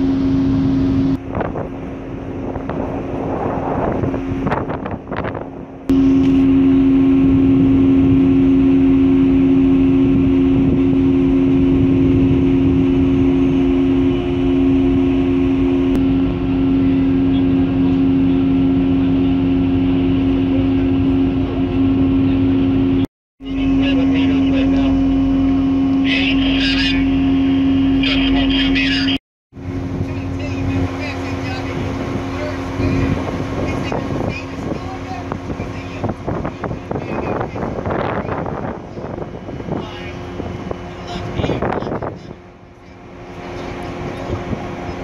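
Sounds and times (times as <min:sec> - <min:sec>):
wind buffeting microphone: 0:00.0 - 0:22.8, 0:29.6 - 0:45.0
ship engines droning: 0:00.0 - 0:45.0.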